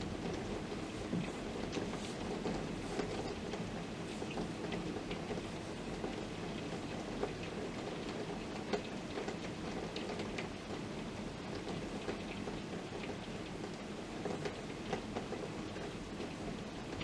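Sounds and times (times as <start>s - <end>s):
raindrops ticking close by: 0.1s - 17.0s.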